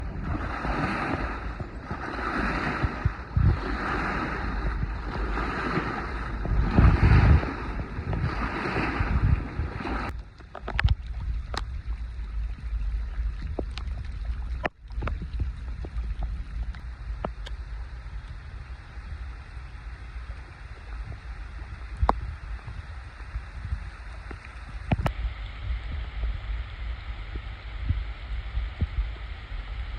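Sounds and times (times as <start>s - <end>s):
lake waves washing ashore: 0.0s - 29.9s
wind rumble on microphone: 0.0s - 29.9s.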